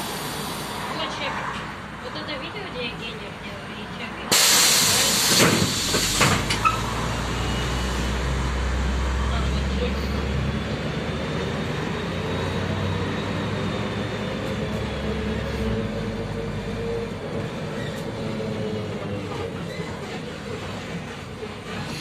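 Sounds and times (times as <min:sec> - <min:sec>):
bus drivetrain and road rumble: 0:00.0 - 0:22.0.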